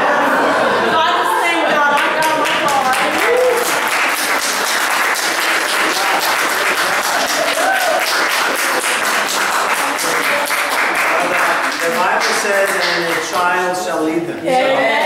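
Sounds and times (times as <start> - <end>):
crowd applauding: 1.8 - 13.8.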